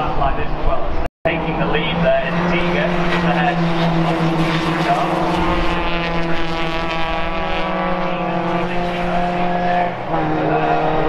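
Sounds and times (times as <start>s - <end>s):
car engine revving high: 1.3s - 11.0s.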